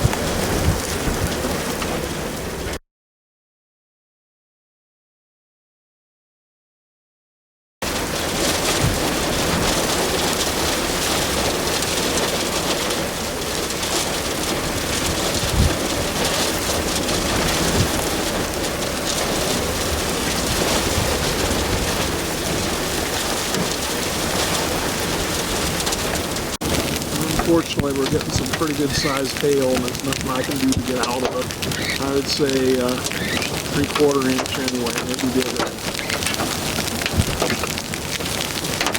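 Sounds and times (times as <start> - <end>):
hail clattering: 0.0 - 2.7, 7.8 - 38.9
heavy rain pelting: 0.0 - 2.8, 7.8 - 38.9
strong wind: 0.0 - 2.8, 7.9 - 38.9.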